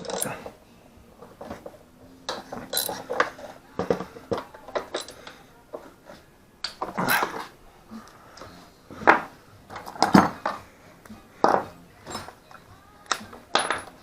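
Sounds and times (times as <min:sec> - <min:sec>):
metal hand tools clinking: 0:00.0 - 0:00.6, 0:01.2 - 0:05.9, 0:06.6 - 0:07.5, 0:08.4 - 0:14.0.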